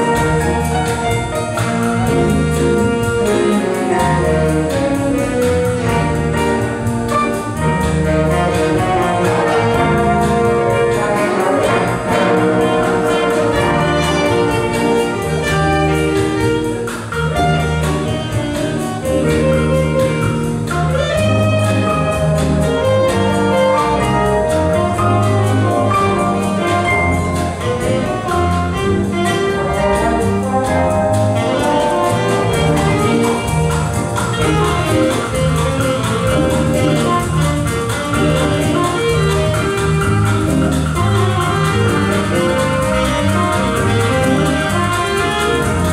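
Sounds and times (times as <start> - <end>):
brass ensemble playing: 0.0 - 45.9.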